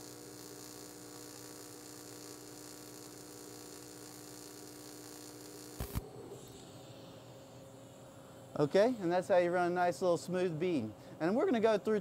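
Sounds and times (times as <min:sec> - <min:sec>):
welding arc humming and hissing: 0:00.0 - 0:12.0.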